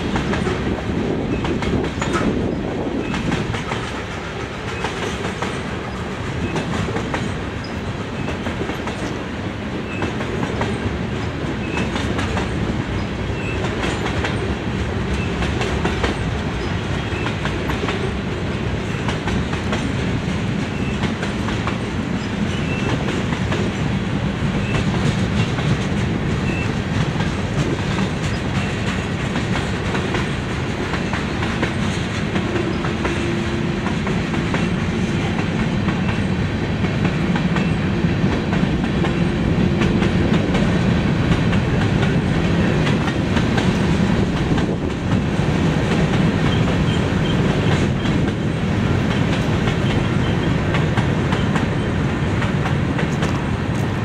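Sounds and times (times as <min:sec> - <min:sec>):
freight train wheels clickety-clack: 0:00.0 - 0:54.0.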